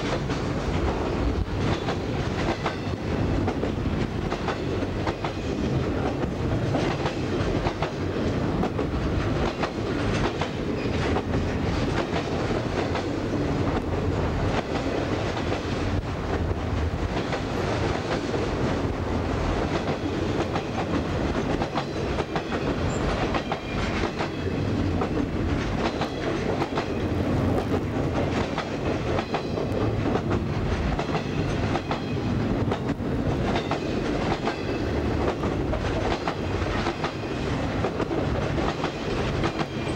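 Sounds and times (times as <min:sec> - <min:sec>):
freight train rolling past: 0:00.0 - 0:39.9
wheels clacking on track: 0:00.0 - 0:39.9.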